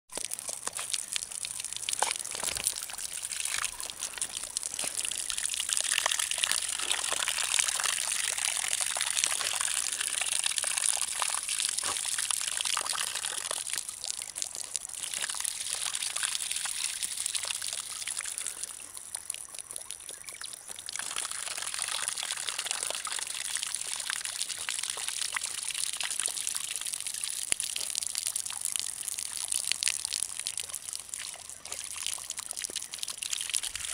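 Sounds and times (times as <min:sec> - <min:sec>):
small waterfall splashing: 0:00.1 - 0:33.9
puppy splashing in water: 0:00.2 - 0:33.9.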